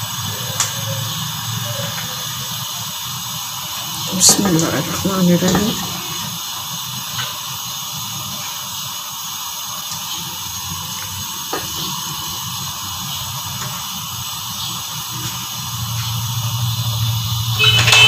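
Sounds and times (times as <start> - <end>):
pot hissing on stove: 0.0 - 18.0.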